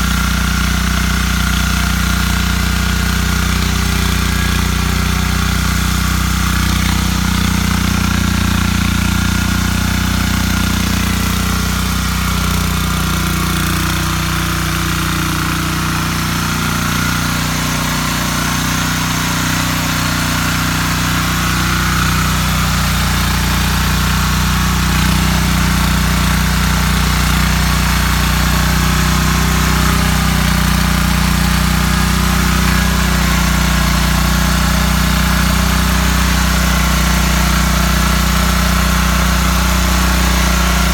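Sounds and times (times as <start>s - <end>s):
small petrol engine running: 0.0s - 40.9s.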